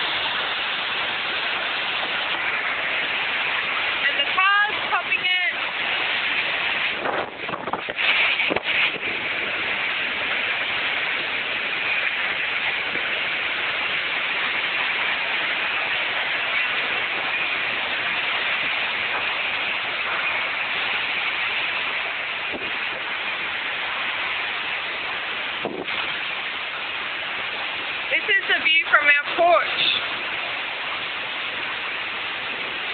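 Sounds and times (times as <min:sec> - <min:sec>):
torrential rain hiss: 0:00.0 - 0:32.9.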